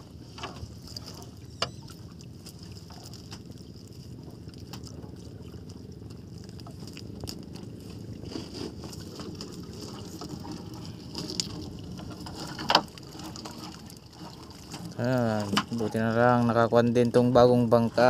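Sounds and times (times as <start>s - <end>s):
water sloshing and dripping: 0.0s - 18.0s.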